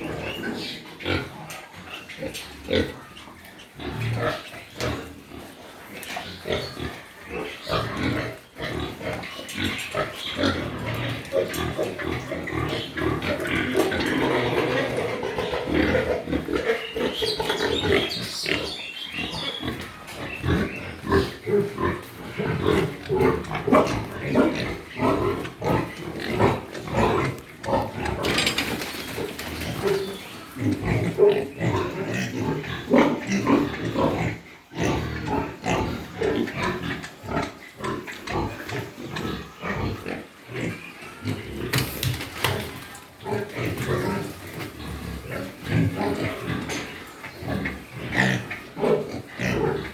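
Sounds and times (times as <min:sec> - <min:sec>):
pigs grunting and squealing: 0:00.0 - 0:49.9.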